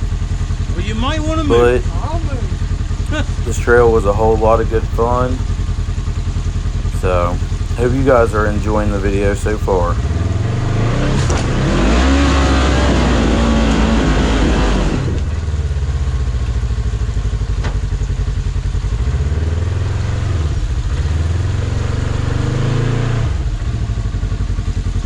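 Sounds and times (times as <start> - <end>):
engine revving: 0.0 - 17.4, 18.5 - 25.0.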